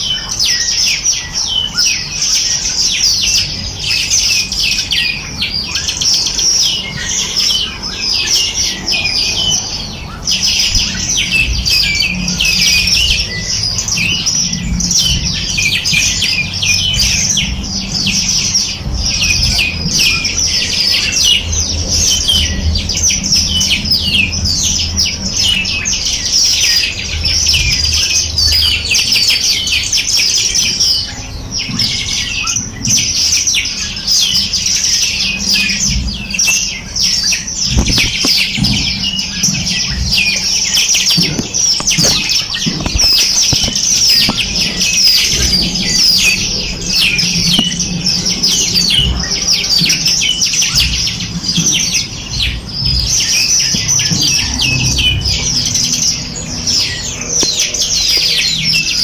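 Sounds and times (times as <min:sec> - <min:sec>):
small birds chirping: 0:00.0 - 0:59.0
low steady rumble: 0:03.4 - 0:59.0.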